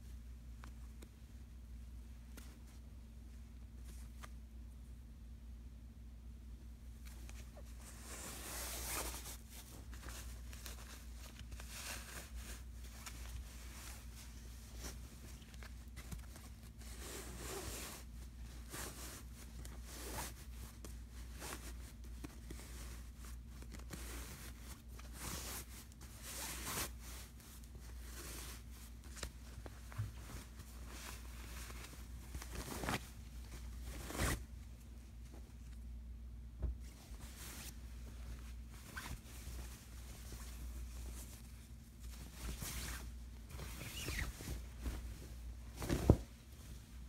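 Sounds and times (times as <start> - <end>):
low steady hum: 0.0 - 47.0
fabric and packaging rustling: 7.0 - 47.0.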